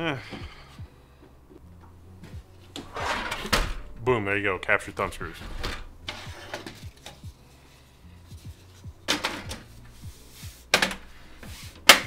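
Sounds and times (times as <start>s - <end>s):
quiet music with pulsing beat: 0.0s - 12.0s.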